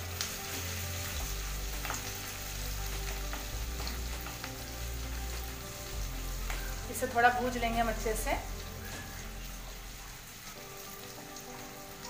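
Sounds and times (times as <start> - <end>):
ginger and garlic sizzling in oil: 0.0 - 12.0.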